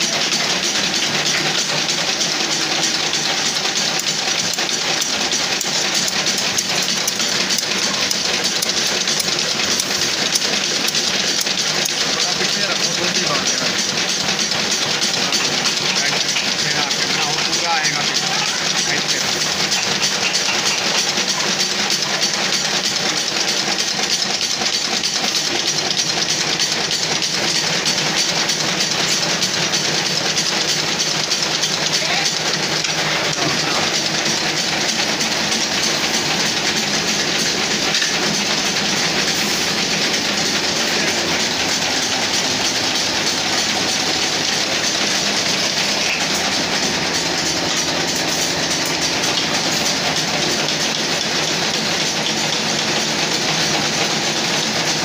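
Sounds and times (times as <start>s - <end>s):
tufting machine clattering: 0.0s - 55.0s.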